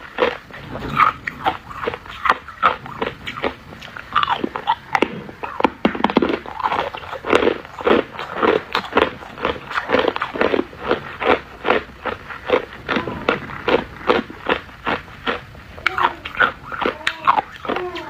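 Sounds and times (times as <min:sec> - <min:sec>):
ice crunching from chewing: 0:00.0 - 0:18.0.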